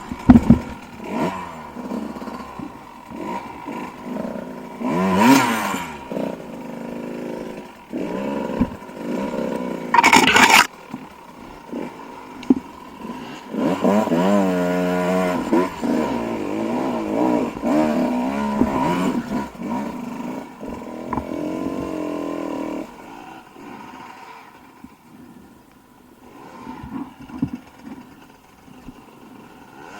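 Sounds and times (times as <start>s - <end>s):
dirt bike engine revving: 0.0s - 25.5s, 26.2s - 29.9s.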